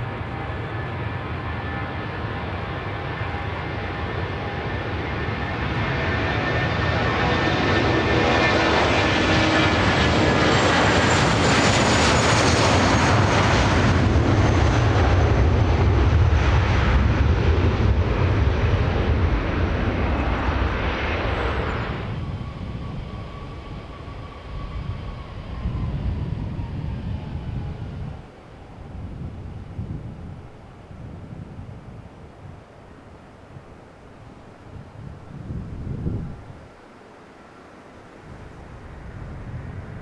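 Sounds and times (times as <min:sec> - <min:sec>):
jet airliner engines roaring: 0:00.0 - 0:40.0
quieter jet whine: 0:00.0 - 0:40.0.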